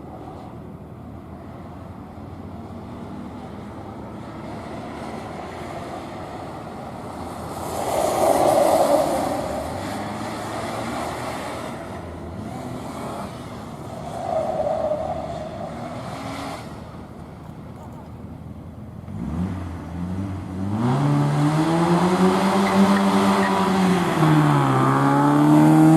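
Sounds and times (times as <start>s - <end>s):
car engine working hard: 0.0s - 25.9s.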